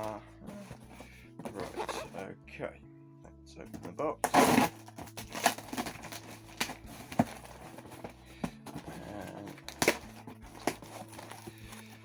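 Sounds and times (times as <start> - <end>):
cardboard box being opened: 0.0 - 2.2, 3.8 - 12.0.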